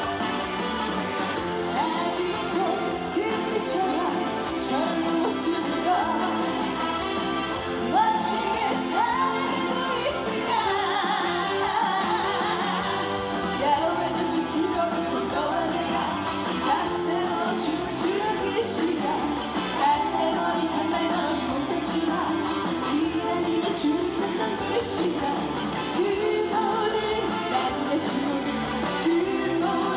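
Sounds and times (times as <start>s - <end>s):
backing track music: 0.0s - 29.9s
woman singing: 0.0s - 29.9s.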